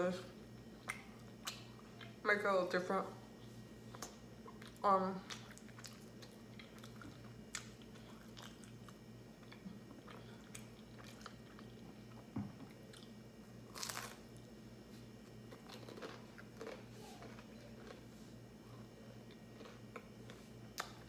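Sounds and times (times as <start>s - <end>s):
faint low hum: 0.0s - 21.0s
chewing crunchy food: 3.4s - 21.0s.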